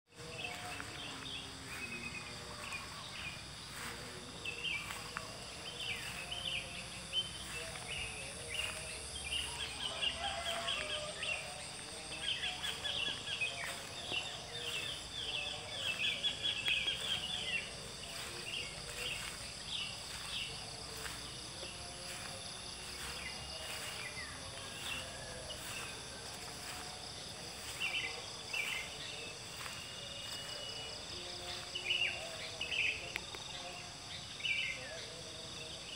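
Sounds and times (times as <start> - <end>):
small birds chirping: 0.1 - 33.6.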